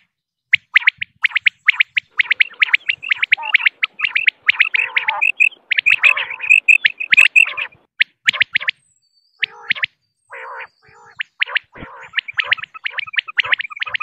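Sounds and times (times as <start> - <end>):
quail calling: 0.8 - 8.8, 9.4 - 14.0.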